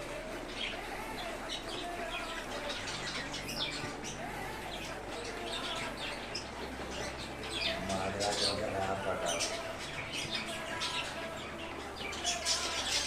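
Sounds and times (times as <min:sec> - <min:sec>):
budgerigars chirping and warbling: 0:00.0 - 0:13.0.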